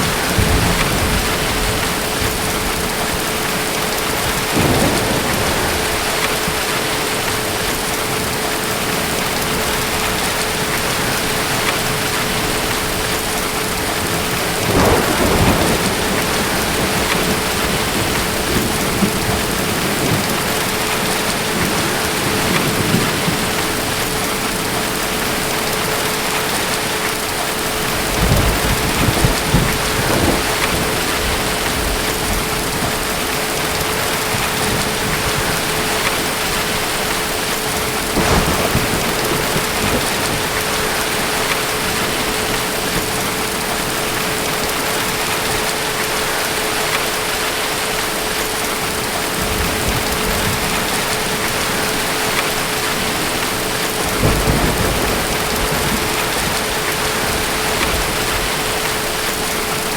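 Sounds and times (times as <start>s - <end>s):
distant thunder rumbling: 0.0s - 26.9s, 27.7s - 46.1s, 47.9s - 59.9s
heavy rain: 0.0s - 59.9s.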